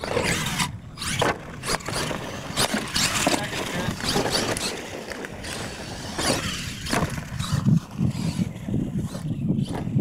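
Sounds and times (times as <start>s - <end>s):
toy truck motor running: 0.0s - 10.0s
tyres scrabbling on dirt: 0.0s - 10.0s.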